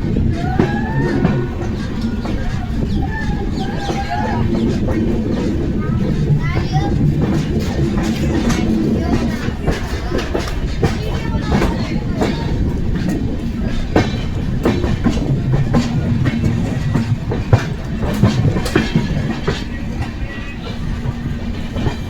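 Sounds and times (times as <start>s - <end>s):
train rumbling on track: 0.0s - 22.0s
wheels knocking over rail joints: 0.0s - 22.0s.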